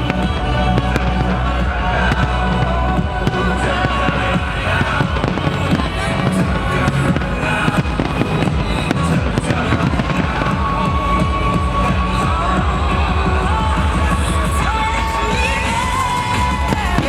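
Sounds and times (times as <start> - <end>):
fireworks bangs and crackles: 0.0 - 17.0
loud music with heavy bass: 0.0 - 17.0.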